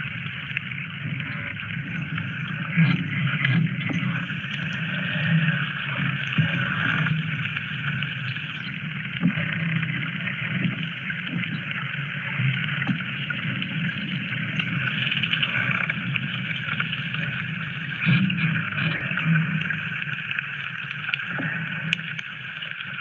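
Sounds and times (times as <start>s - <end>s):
underwater crackling: 0.0s - 23.0s.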